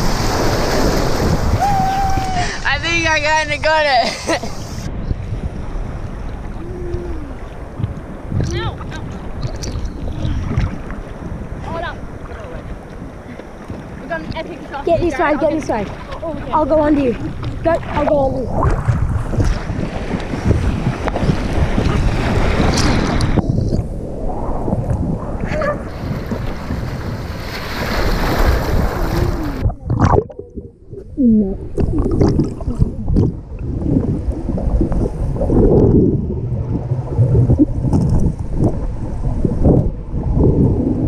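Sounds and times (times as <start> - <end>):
sea water splashing: 0.0 - 2.7, 5.8 - 41.0
underwater bubbling: 4.5 - 41.0.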